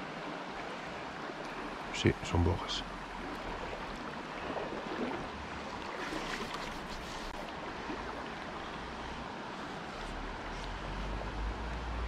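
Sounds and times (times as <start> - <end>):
small river rushing: 0.0 - 12.0.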